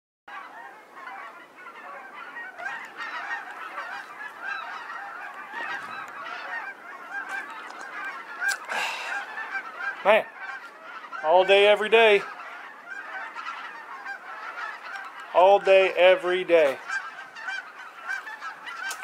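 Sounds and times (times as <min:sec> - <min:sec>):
geese honking: 0:00.3 - 0:19.0.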